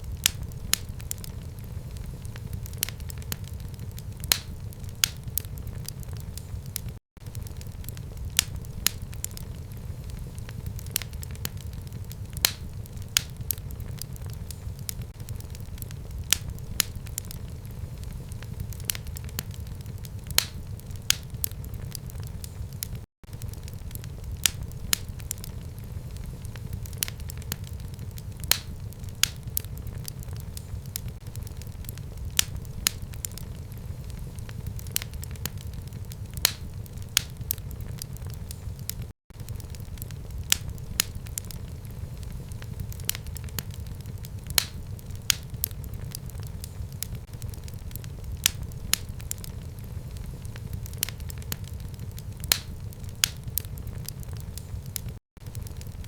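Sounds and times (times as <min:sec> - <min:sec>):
fire crackling and popping: 0:00.0 - 0:56.0
fire rumbling: 0:00.0 - 0:56.0.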